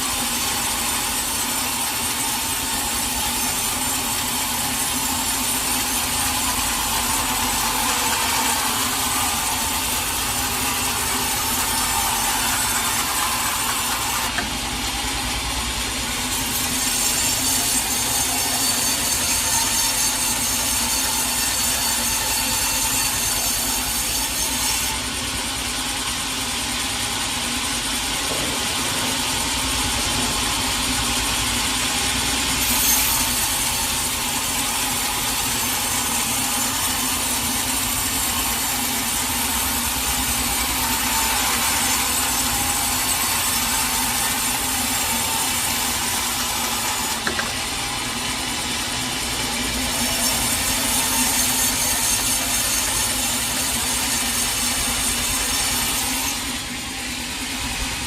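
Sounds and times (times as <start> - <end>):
saw cutting wood: 0.0 - 25.6, 28.1 - 58.0.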